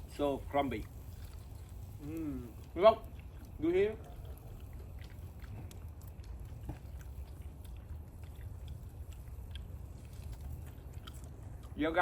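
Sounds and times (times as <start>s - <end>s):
person chewing crispy chicken skin: 0.7s - 12.0s.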